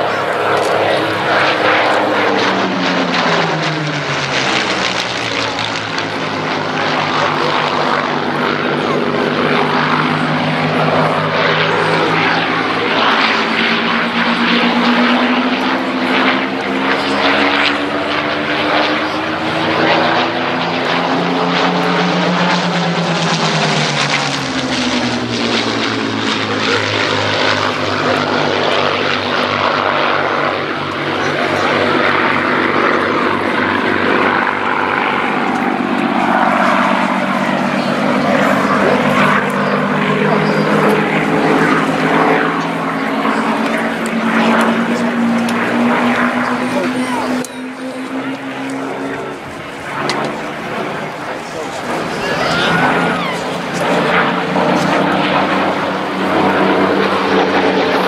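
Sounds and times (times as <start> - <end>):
propeller planes flying past: 0.0 - 58.0.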